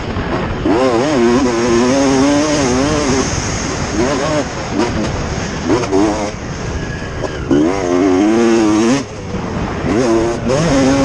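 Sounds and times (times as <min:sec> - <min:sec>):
motocross bike engines revving: 0:00.0 - 0:11.0
steady rush of noise: 0:00.0 - 0:11.0.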